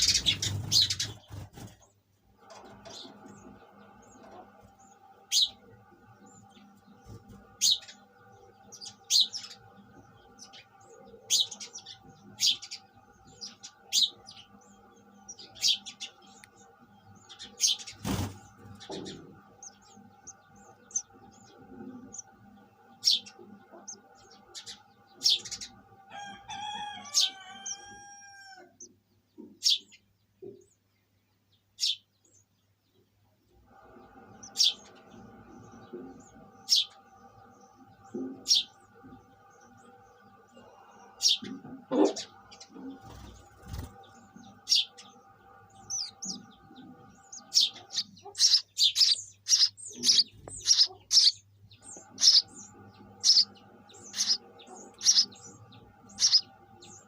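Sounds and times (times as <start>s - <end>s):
sparrow chirping: 0.0s - 1.9s, 2.7s - 33.2s, 34.0s - 57.0s
steady background hum: 0.0s - 57.0s.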